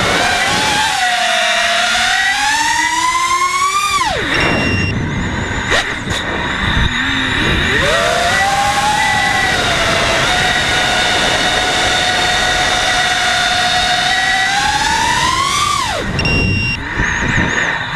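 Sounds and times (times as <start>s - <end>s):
drone motors whining: 0.0s - 17.9s.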